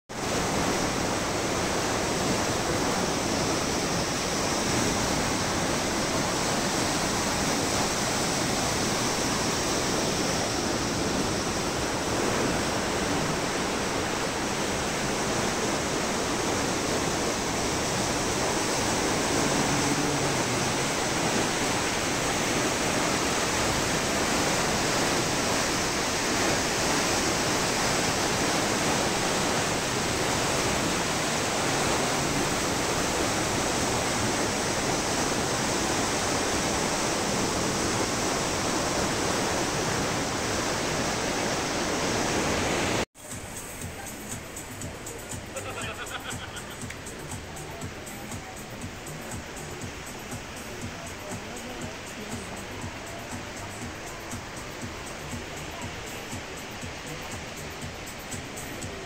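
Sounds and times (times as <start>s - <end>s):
river water rushing over weir: 0.1s - 59.0s.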